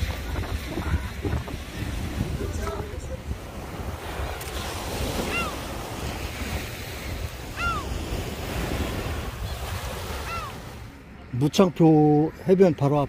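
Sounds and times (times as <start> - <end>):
waves washing onto pebbly beach: 0.0 - 11.0
wind rumbling on microphone: 0.0 - 11.4.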